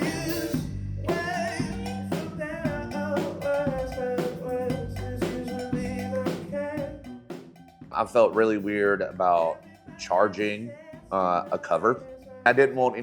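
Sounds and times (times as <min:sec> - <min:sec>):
person singing: 0:00.0 - 0:07.1, 0:08.2 - 0:13.0
rock band music: 0:00.0 - 0:12.9
drum kit beat: 0:00.0 - 0:13.0.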